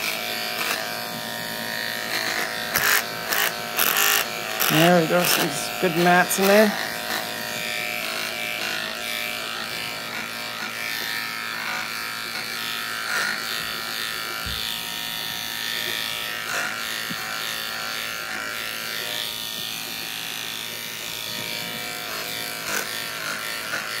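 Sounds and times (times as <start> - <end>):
electric clipper buzzing: 0.0 - 24.0.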